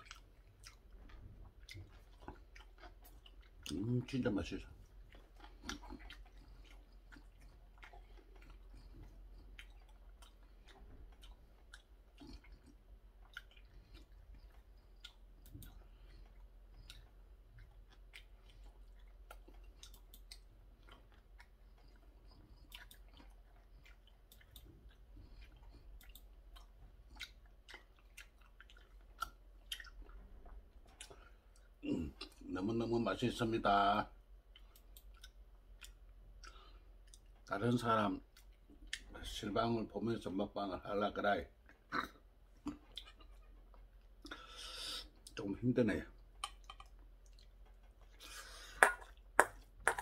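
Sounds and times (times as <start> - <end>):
mouth clicks and smacks: 0.0 - 32.5, 34.5 - 37.5, 41.6 - 45.4, 46.2 - 50.0
faint chewing: 0.0 - 50.0.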